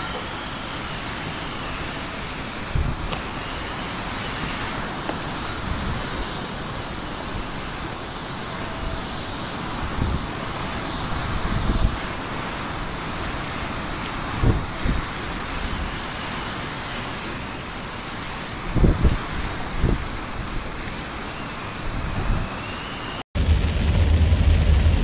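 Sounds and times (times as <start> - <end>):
wind gusts buffeting microphone: 0.0 - 22.8
heavy rain downpour: 0.0 - 25.0.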